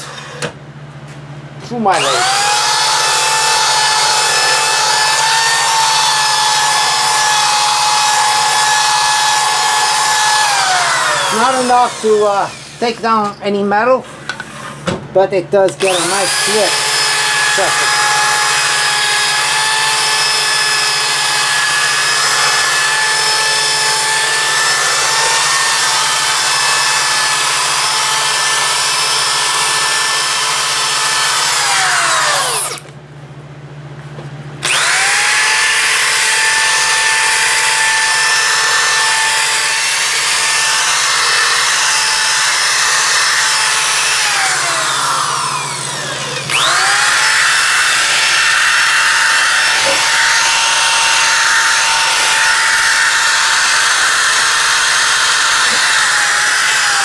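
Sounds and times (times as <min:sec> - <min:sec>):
power drill with abrasive disc: 0:01.8 - 0:13.4, 0:15.8 - 0:32.9, 0:34.6 - 0:57.0.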